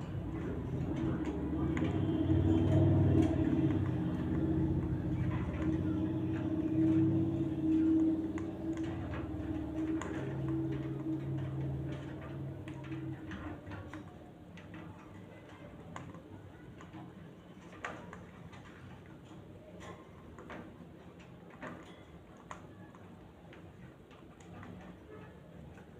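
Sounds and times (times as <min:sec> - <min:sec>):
light clicks and ticks: 0:00.0 - 0:25.9.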